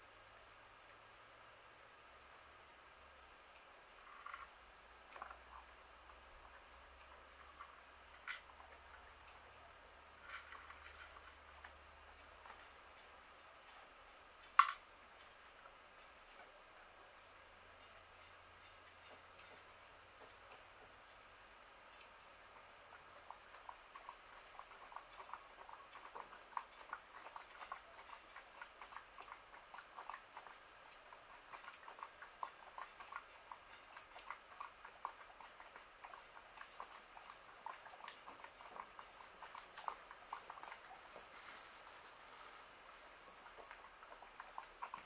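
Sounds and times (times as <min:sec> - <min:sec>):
low steady hiss: 0:00.0 - 0:45.0
faint irregular clicking: 0:03.4 - 0:45.0.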